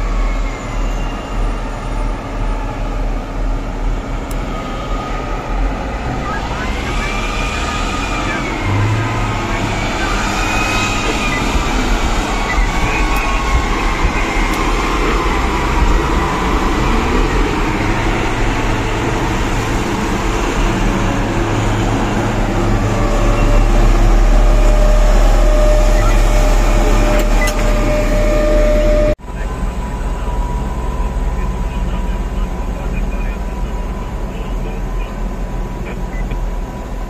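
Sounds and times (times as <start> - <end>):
haul truck rumble: 0.0 - 37.0
heavy machinery engine drone: 0.0 - 37.0.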